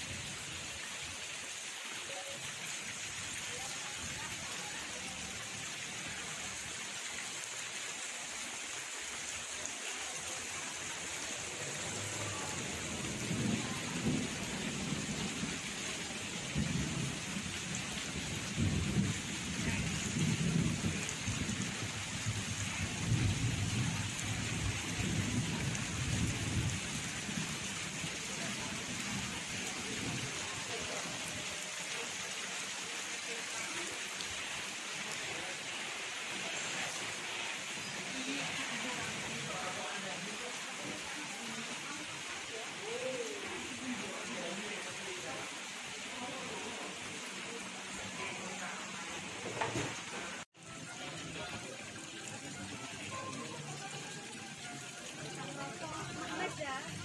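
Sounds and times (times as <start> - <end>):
fountain splashing: 0.0 - 57.0
rain falling on a pond: 0.0 - 57.0.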